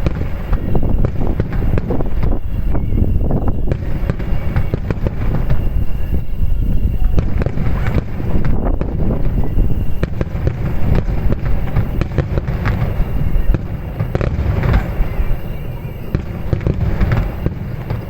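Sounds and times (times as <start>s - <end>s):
deep rumble of fireworks: 0.0s - 18.0s
fireworks bursting: 0.0s - 18.0s.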